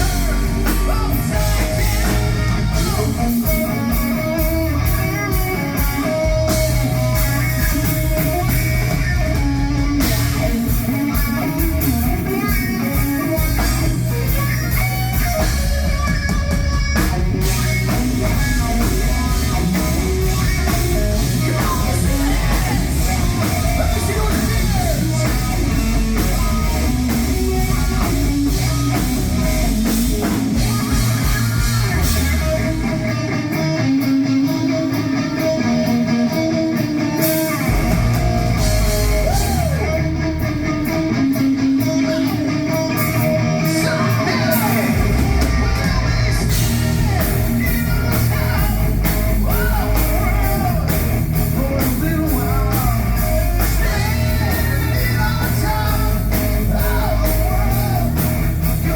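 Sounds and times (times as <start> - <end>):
bass guitar: 0.0 - 58.9
drums: 0.0 - 58.9
electric guitar: 0.0 - 58.9.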